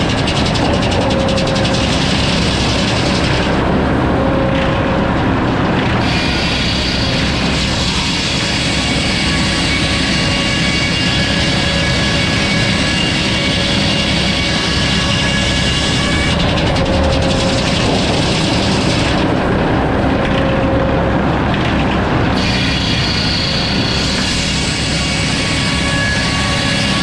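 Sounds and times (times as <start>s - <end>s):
sawmill machine noise: 0.0s - 27.0s
whining tones: 0.0s - 27.0s.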